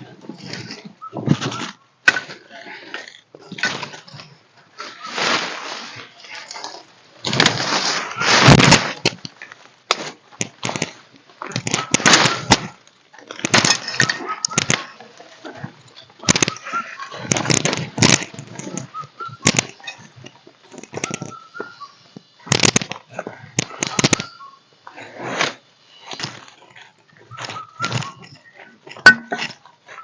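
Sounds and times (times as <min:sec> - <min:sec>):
rustling and sharp cracking: 0:00.0 - 0:30.0.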